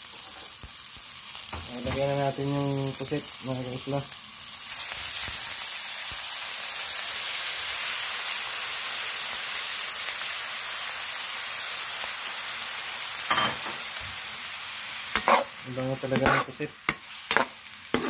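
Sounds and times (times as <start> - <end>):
squid sizzling in hot oil: 0.0 - 18.0.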